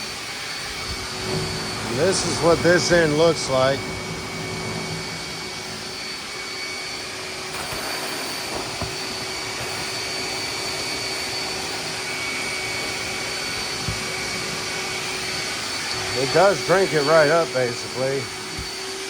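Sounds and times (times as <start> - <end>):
vacuum sucking water: 0.0 - 19.0
wet dry vacuum whining: 0.0 - 19.0.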